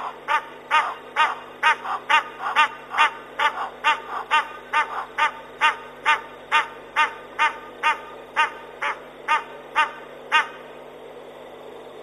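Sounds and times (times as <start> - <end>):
animal calls rising and falling: 0.0 - 10.6.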